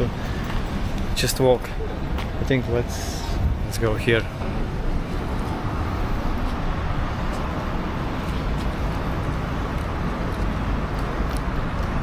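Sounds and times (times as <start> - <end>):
passing cars rushing: 0.0 - 12.0.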